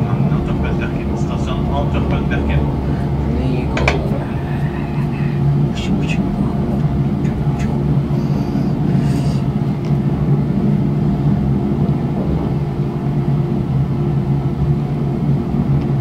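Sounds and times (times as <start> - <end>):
train cabin rumble: 0.0 - 16.0.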